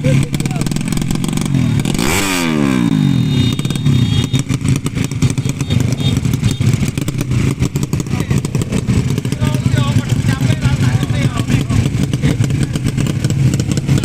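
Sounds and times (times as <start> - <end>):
motorcycle engines idling: 0.0 - 14.0.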